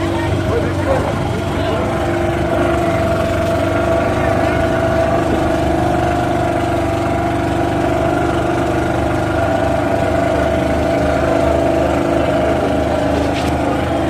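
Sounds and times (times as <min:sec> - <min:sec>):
boat engine humming: 0:00.0 - 0:14.0
water noise: 0:00.0 - 0:14.0.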